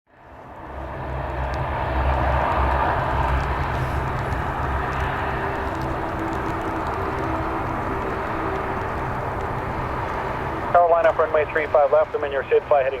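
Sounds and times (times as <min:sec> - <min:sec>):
airliner engine rumble: 0:00.1 - 0:13.0.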